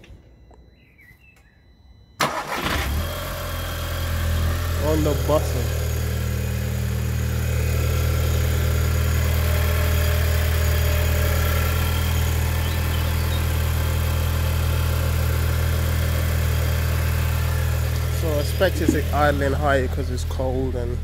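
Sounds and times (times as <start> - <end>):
car engine fast idling: 2.2 - 21.0.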